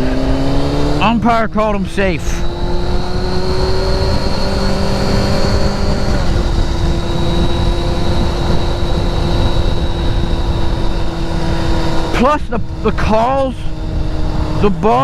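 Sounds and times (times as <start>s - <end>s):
vehicle driving on highway: 0.0s - 15.0s.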